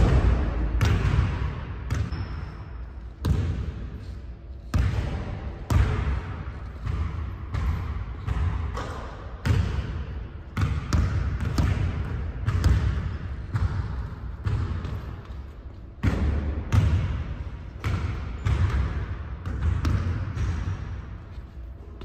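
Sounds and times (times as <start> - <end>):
basketballs bouncing on gym floor: 0.0 - 22.0.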